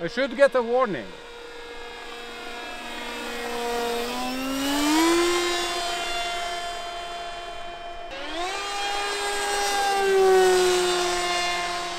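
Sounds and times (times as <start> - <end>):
model plane motor droning: 0.0 - 11.9.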